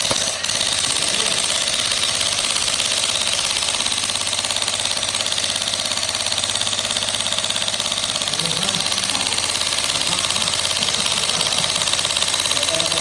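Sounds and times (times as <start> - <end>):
jackhammer running: 0.0 - 13.0.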